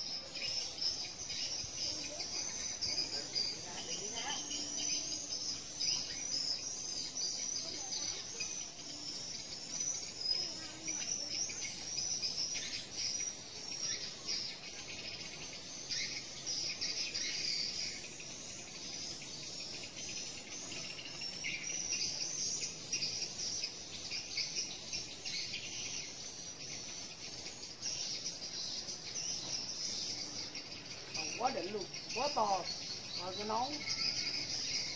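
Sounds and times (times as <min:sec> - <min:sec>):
bird chirps: 0:00.0 - 0:34.9
insects chirring: 0:00.0 - 0:34.9.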